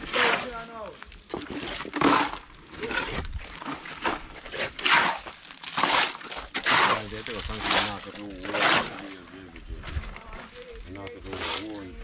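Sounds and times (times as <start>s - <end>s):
tool scraping wet concrete: 0.0s - 10.1s, 11.1s - 12.0s.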